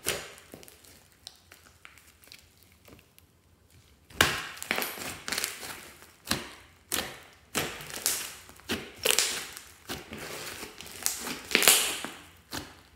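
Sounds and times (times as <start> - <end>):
slime kneaded with sticky pops: 0.0 - 12.9.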